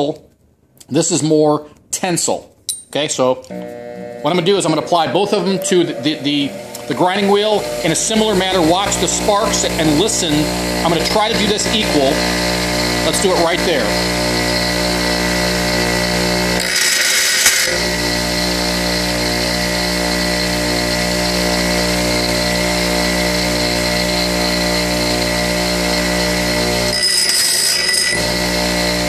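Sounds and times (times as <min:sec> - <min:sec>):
bench grinder motor hum: 0:03.5 - 0:29.0
drill bit grinding on wheel: 0:03.5 - 0:29.0.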